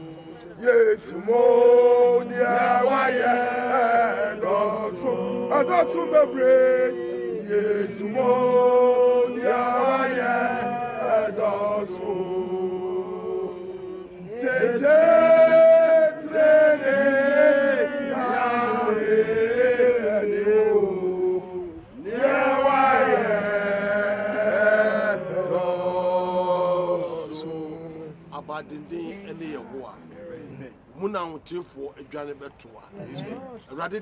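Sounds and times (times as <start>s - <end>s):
voices singing a hymn: 0.0s - 31.2s.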